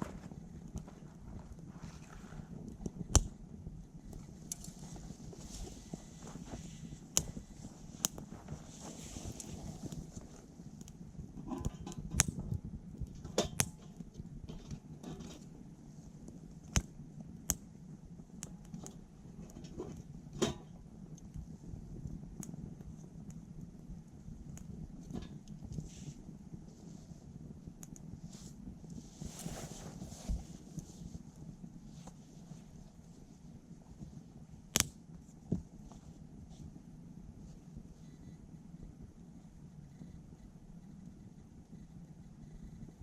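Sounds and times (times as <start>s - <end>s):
wood fire crackling and popping: 0.0s - 37.9s
low steady rumble: 0.0s - 43.0s.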